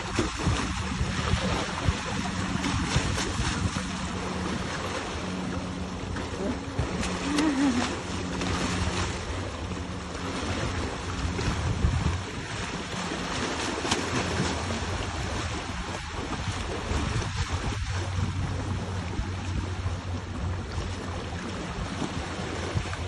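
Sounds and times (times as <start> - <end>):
boat motor humming: 0.0 - 23.0
rushing water: 0.0 - 23.0
wind buffeting microphone: 0.0 - 23.0.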